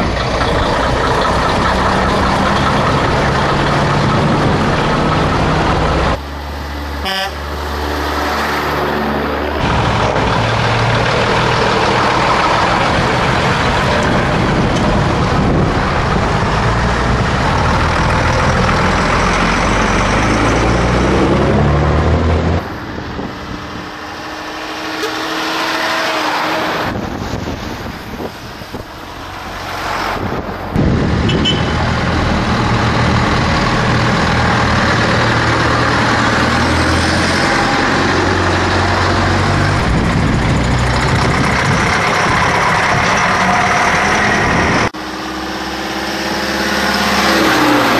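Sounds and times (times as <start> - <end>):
diesel trucks driving past: 0.0 - 47.9.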